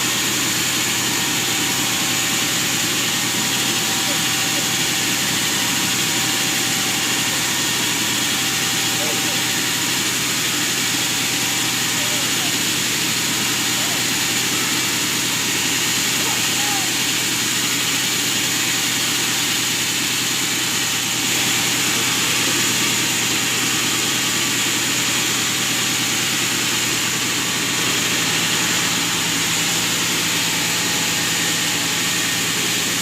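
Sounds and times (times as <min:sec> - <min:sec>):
loud high saw hiss: 0:00.0 - 0:33.0
sawmill motor hum: 0:00.0 - 0:33.0.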